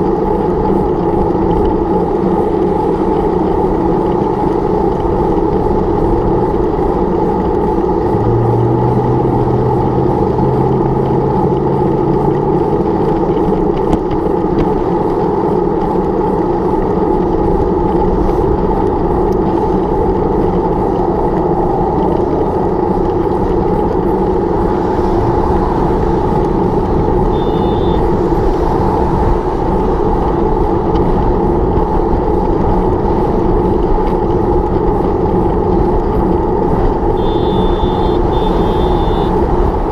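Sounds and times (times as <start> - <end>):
low steady hum: 0.0 - 39.9
road traffic: 0.0 - 39.9
wind noise: 0.0 - 39.9.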